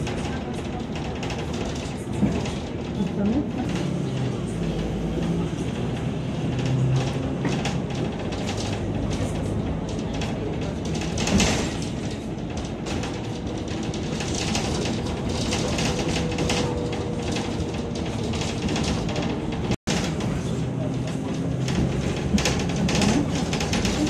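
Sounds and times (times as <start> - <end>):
rattling and clatter: 0.0 - 24.0
vehicle jolt: 0.0 - 24.0
vehicle ride rumble: 0.0 - 24.0.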